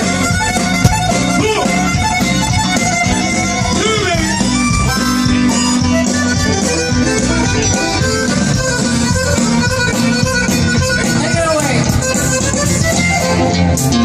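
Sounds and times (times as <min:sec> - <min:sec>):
band playing reedy melody: 0:00.0 - 0:14.0.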